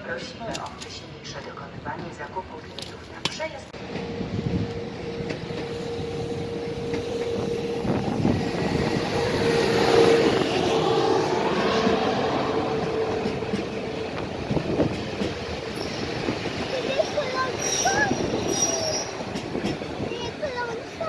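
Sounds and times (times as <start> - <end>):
rail noise: 0.0 - 21.0
electric train passing: 3.5 - 21.0.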